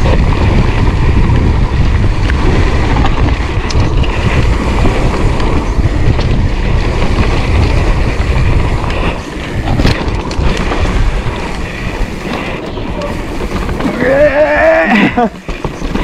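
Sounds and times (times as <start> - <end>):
bike rattling over bumps: 0.0 - 16.0
bike tyres on dirt: 0.0 - 16.0
wind buffeting microphone: 0.0 - 16.0.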